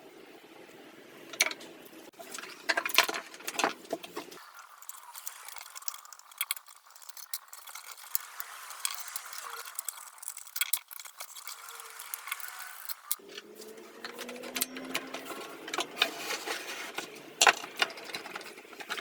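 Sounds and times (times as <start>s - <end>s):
metal parts and tools rattling: 1.3s - 19.0s.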